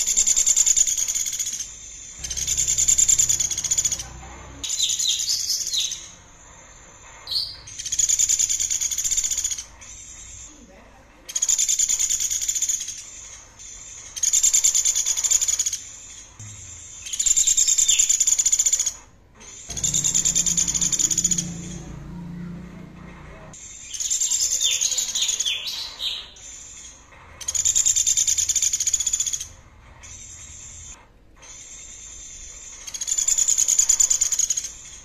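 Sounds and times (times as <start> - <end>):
songbird buzzy trills: 0.0 - 10.5, 11.3 - 31.0.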